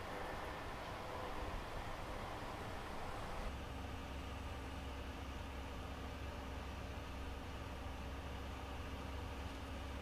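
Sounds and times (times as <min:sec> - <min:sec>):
faint steady tone: 0:00.0 - 0:10.0
light even hiss: 0:00.0 - 0:10.0
steady low hum: 0:00.0 - 0:10.0.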